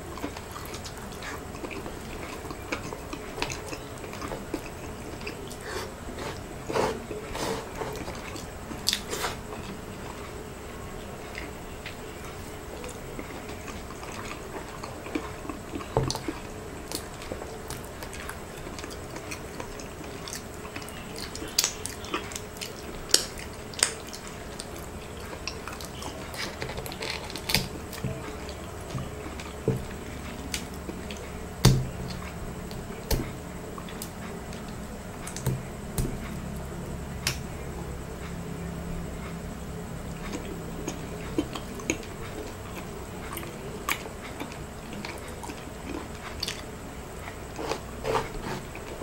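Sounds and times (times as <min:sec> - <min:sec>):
wet chewing: 0:00.0 - 0:49.0.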